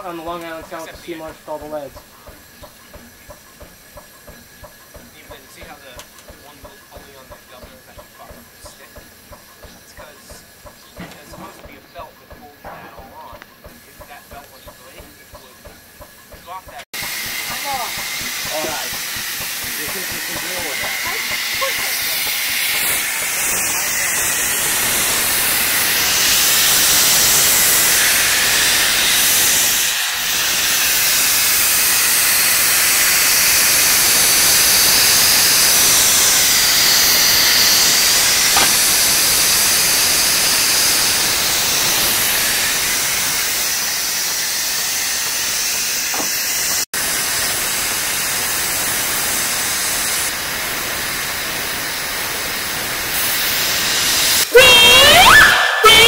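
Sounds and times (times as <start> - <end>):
steam hissing: 0.0 - 56.0.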